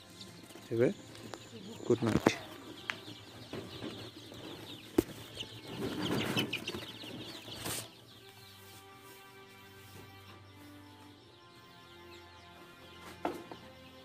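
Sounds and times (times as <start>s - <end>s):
chicks peeping and clucking: 0.0s - 14.0s
soft music with held notes: 0.0s - 14.0s.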